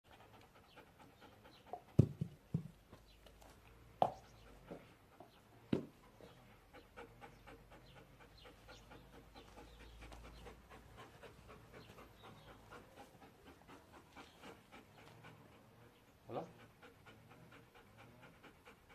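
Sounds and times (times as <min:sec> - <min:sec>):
dog panting: 0:00.0 - 0:18.9.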